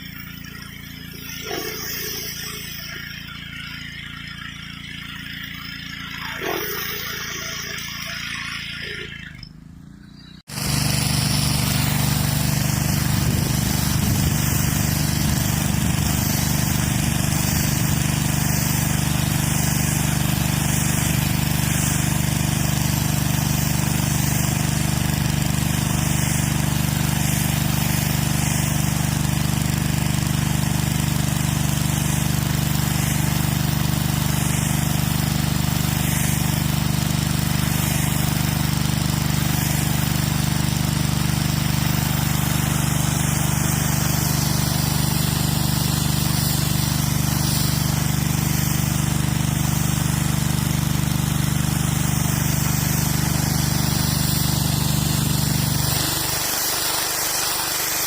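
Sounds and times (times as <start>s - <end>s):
water jet spraying on concrete: 0.0s - 9.4s, 10.5s - 58.0s
pressure washer engine running: 0.0s - 58.0s.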